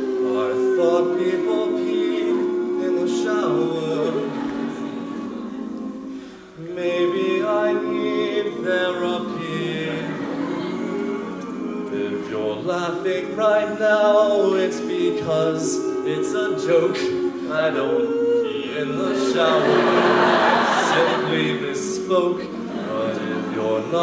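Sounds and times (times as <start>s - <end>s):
male a cappella group singing: 0.0s - 24.0s.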